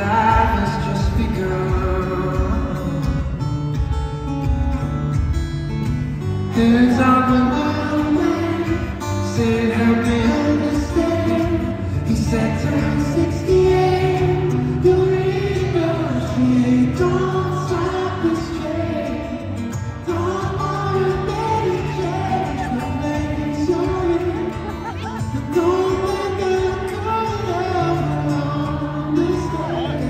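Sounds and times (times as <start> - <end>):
man singing: 0.0 - 3.5, 6.2 - 30.0
acoustic guitar: 0.0 - 30.0.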